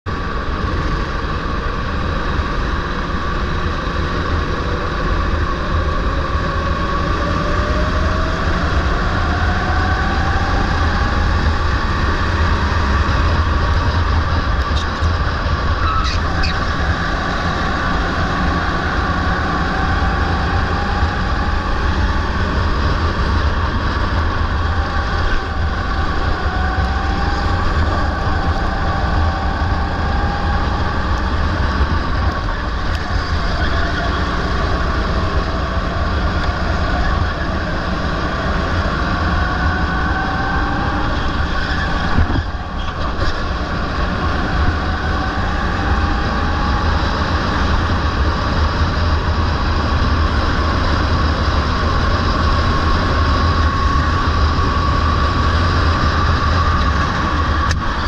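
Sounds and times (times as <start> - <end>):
go-kart engine racing: 0.0 - 58.0
other go-kart engines: 0.0 - 58.0
wind rumble on microphone: 0.0 - 58.0.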